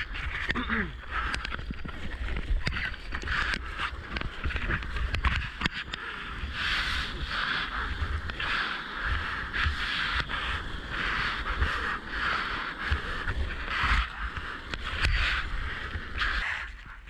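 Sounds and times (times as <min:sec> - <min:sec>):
wind buffeting camera housing: 0:00.0 - 0:17.0
whitewater rushing and splashing: 0:01.0 - 0:16.2.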